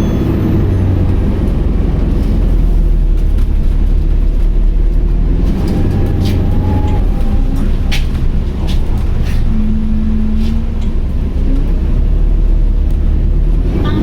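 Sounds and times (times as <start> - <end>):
bus interior drone: 0.0 - 14.0.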